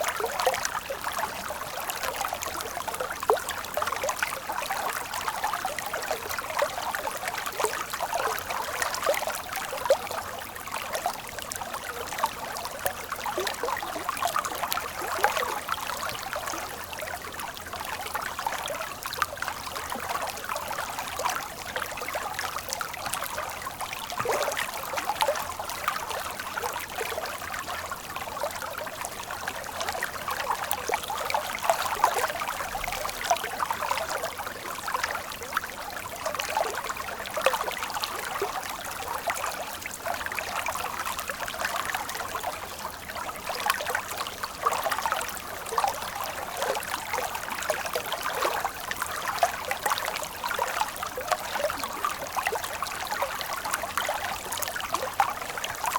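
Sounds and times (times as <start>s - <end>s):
stream water trickling: 0.0s - 55.9s.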